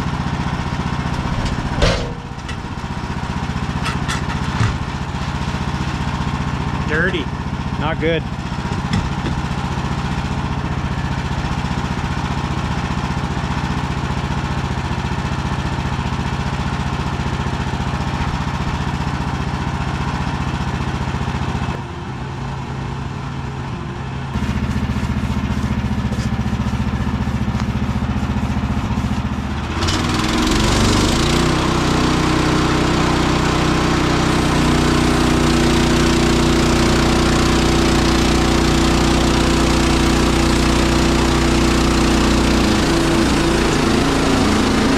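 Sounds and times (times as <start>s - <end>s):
sawmill gas engine running: 0.0s - 44.9s.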